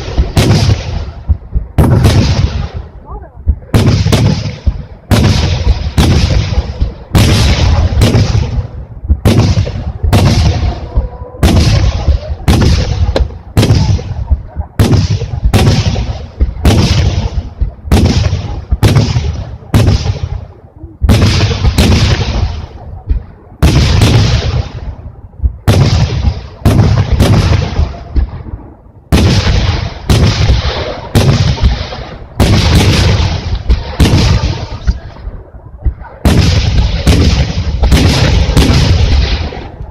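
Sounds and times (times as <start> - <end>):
rumbling echo: 0.0 - 39.9.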